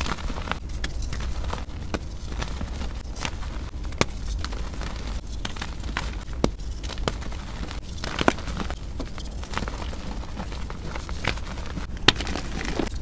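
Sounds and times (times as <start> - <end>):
chalk crunching and crackling: 0.0 - 13.0.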